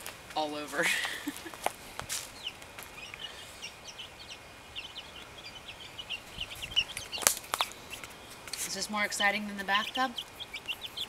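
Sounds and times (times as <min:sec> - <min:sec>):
chicks peeping: 0:00.4 - 0:11.0.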